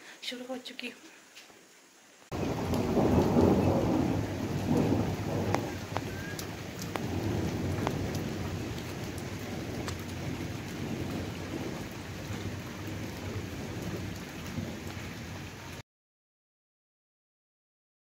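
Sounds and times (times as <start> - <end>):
steady rain falling: 0.0 - 15.8.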